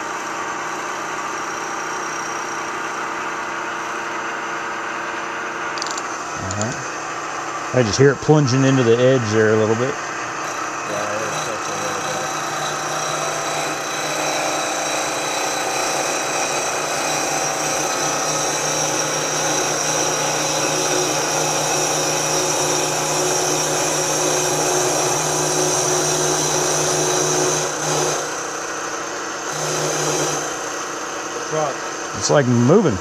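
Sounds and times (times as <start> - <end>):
cutter cutting iron: 0.0 - 33.0
milling machine spindle hum: 0.0 - 33.0.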